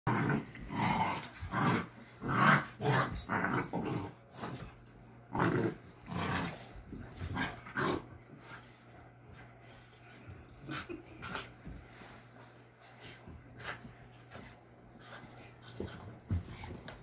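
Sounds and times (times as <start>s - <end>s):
dogs growling while play-fighting: 0.1s - 9.0s, 9.8s - 17.0s.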